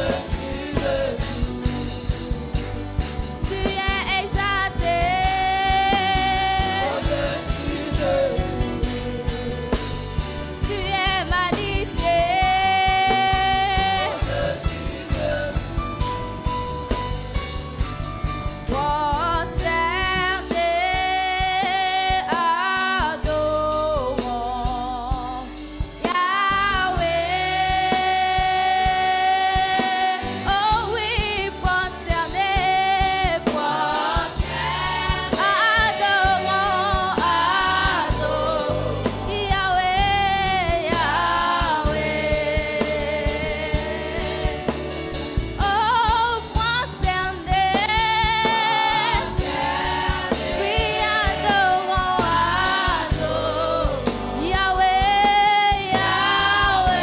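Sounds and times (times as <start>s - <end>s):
voices singing gospel song: 0.0s - 16.6s, 18.7s - 57.0s
instrumental accompaniment: 0.0s - 57.0s.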